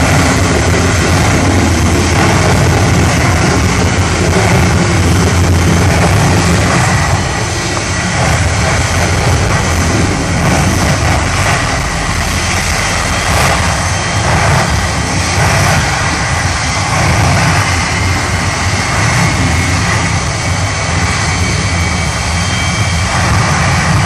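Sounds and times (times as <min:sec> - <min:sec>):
jet engine roar with deep rumble: 0:00.0 - 0:24.0.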